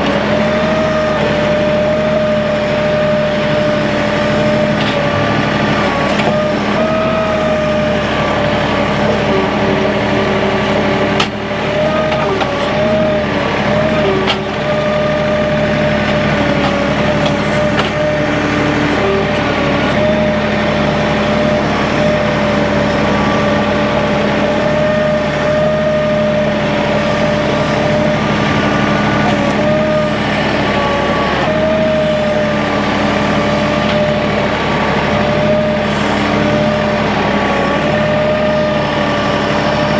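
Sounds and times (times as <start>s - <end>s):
constant whine: 0.0s - 39.9s
engine running under load: 0.0s - 39.9s.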